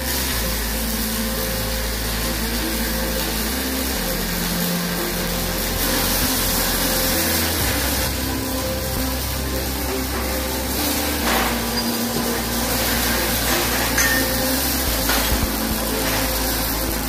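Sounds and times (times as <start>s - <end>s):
background music: 0.0s - 17.0s
welding arc hissing crackle: 0.0s - 17.0s.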